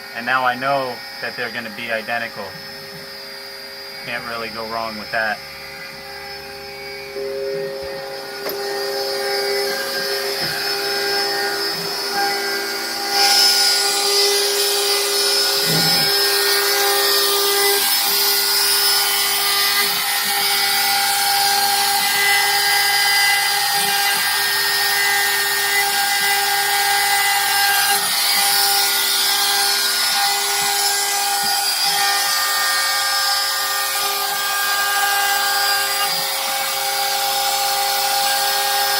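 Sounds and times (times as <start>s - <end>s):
stepper motors whining: 0.0s - 36.8s
router spindle running: 0.0s - 38.9s.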